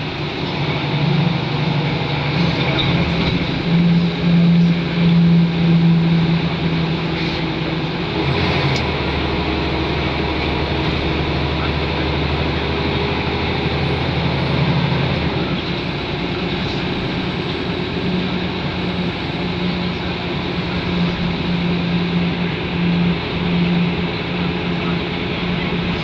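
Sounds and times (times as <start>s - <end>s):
bus engine whirring: 0.0s - 26.0s.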